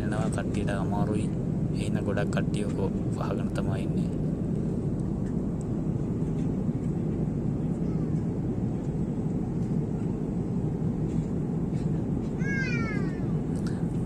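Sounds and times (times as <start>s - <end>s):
jet airliner cabin rumble: 0.0s - 14.0s.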